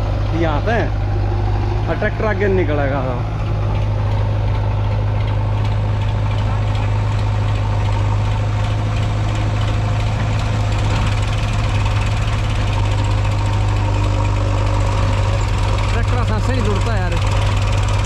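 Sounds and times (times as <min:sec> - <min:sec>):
diesel engines running under load: 0:00.0 - 0:18.0.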